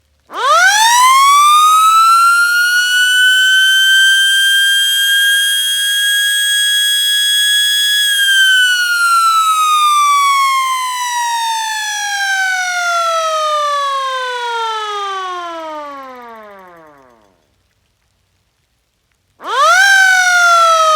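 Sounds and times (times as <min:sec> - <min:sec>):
warning siren wailing: 0:00.3 - 0:17.4, 0:19.4 - 0:20.9.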